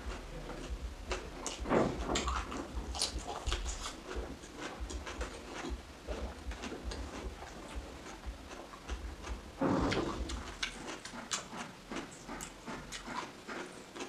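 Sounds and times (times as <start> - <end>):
chewing crisp cucumber: 0.0 - 14.0
wet mouth clicks: 2.2 - 13.7.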